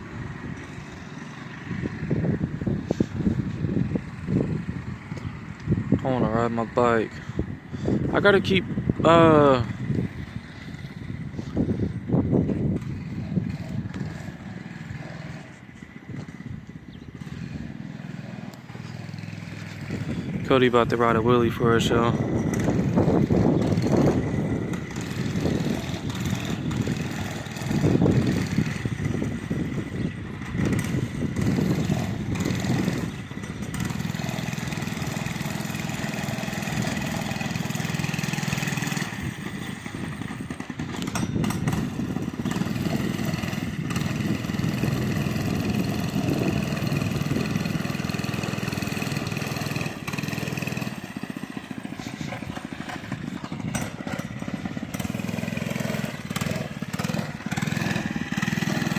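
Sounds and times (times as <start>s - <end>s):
small gas engine revving: 0.0s - 58.9s.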